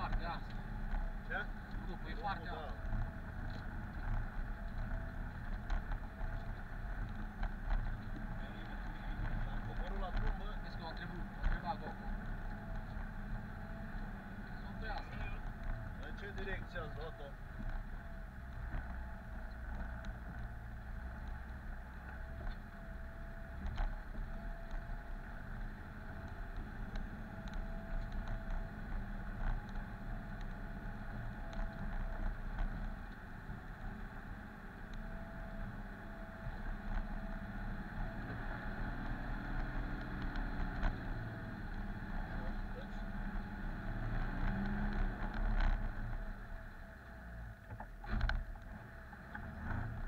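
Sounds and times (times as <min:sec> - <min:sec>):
vehicle engine running slowly: 0:00.0 - 0:50.0.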